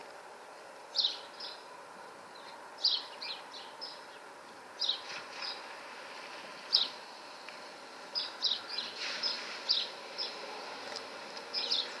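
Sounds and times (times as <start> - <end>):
steady outdoor hiss: 0.0 - 12.0
small birds chirping: 0.5 - 12.0.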